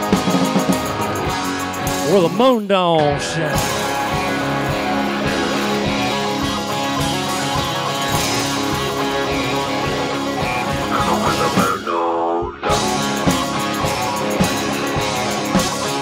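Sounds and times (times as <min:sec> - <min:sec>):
live rock band playing: 0:00.0 - 0:12.0, 0:12.6 - 0:16.0.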